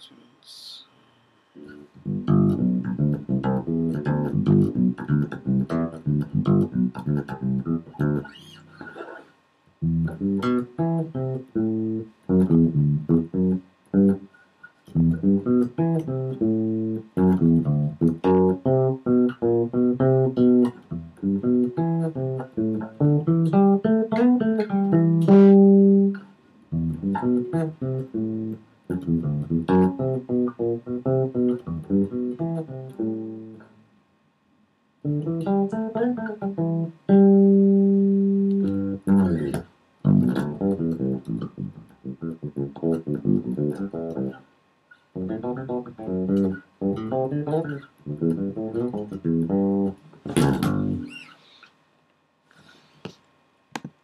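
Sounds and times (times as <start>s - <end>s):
bass guitar plucked notes: 1.6s - 8.8s, 9.8s - 14.3s, 14.9s - 33.7s, 35.0s - 44.4s, 45.2s - 51.2s.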